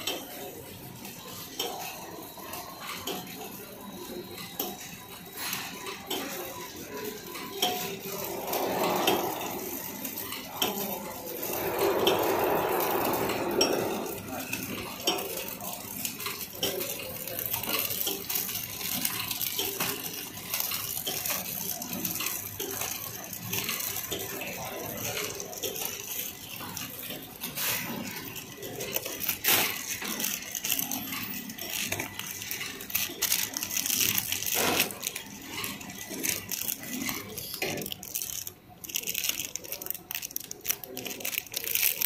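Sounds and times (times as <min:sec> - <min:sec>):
packaging machine clattering: 0:04.5 - 0:42.0.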